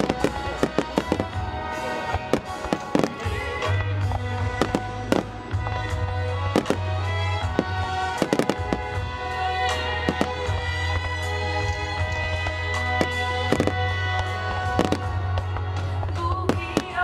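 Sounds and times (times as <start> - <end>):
fireworks bangs: 0.0 - 17.0
loud music: 0.0 - 17.0.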